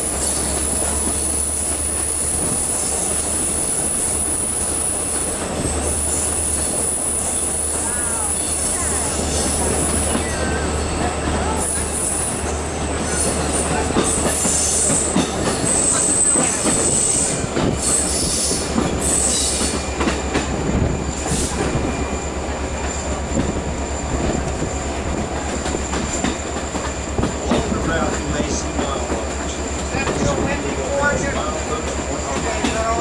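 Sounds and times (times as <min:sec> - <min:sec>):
train wheel squeal: 0:00.0 - 0:30.4
train wheels rumbling and clicking: 0:00.0 - 0:33.0.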